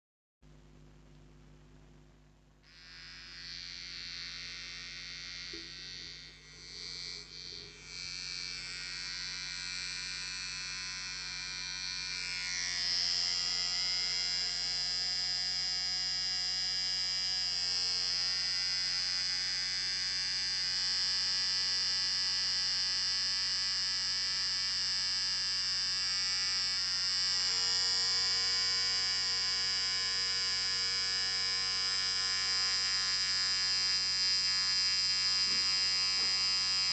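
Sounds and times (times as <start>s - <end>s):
electric beard trimmer buzzing: 2.6s - 36.9s.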